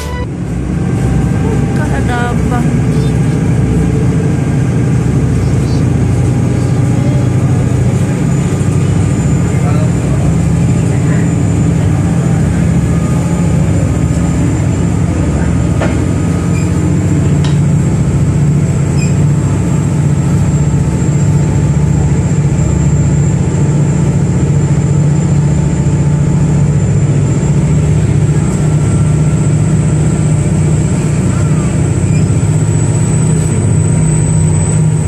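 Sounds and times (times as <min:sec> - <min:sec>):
ferry engines droning: 0:00.0 - 0:35.0.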